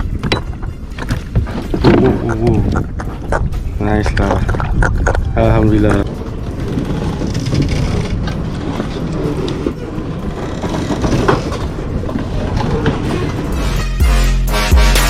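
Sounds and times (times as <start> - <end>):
wind rumble on microphone: 0.0 - 13.6.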